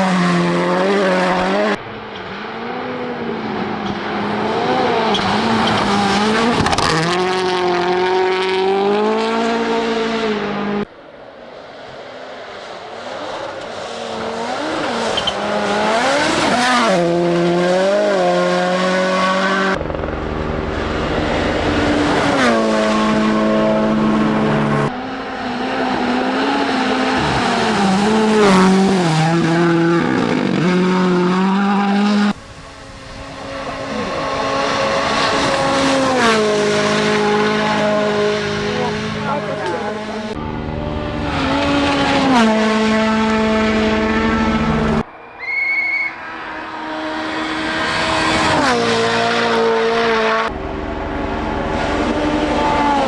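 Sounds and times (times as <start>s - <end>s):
rally car engines revving: 0.0s - 45.1s, 45.9s - 53.0s.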